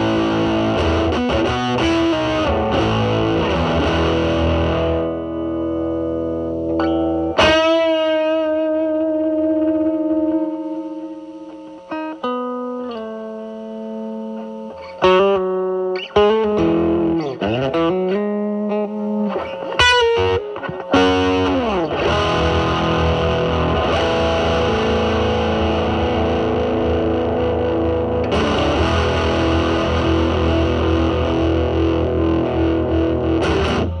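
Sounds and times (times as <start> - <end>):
distorted guitar chord ringing: 0.0 - 34.0
picked electric guitar notes: 0.0 - 34.0.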